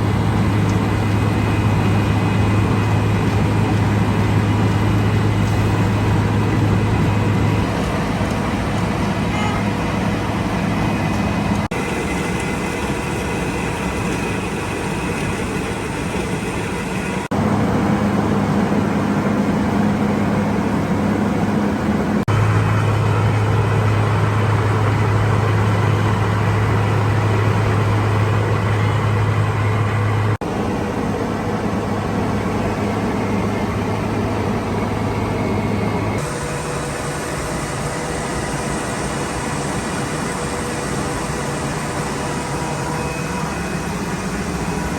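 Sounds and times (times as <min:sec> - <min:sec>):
heavy paving machinery engine hum: 0:00.0 - 0:44.9.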